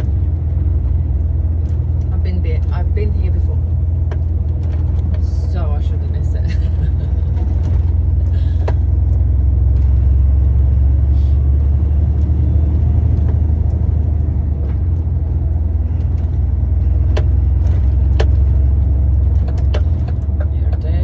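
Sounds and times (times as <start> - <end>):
diesel engine and road rumble: 0.0 - 21.0.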